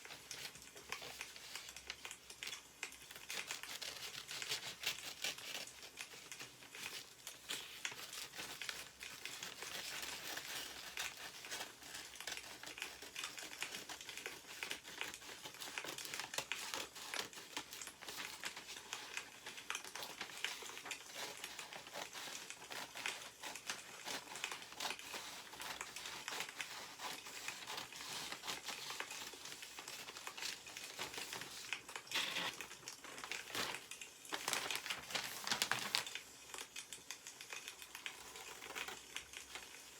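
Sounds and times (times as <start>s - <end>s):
newspaper rustling and crinkling: 0.0s - 39.9s.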